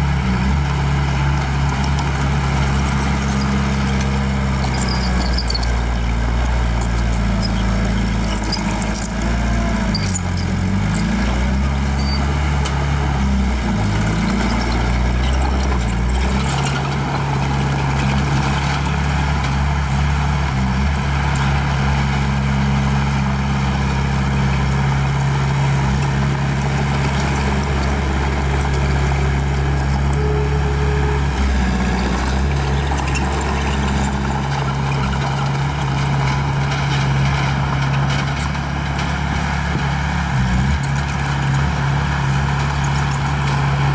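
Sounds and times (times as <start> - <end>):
bulldozer diesel engine working: 0.0 - 43.9.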